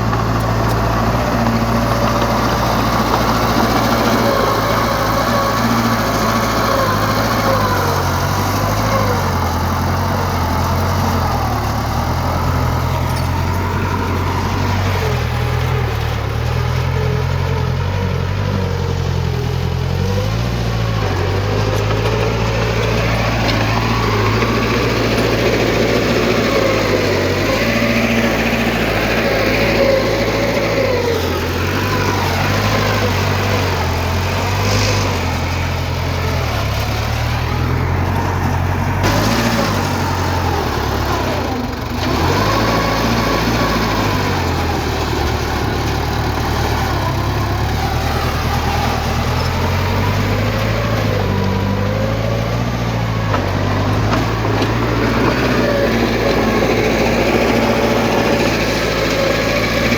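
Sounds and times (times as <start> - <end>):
heavy machinery diesel engines: 0.0 - 59.9.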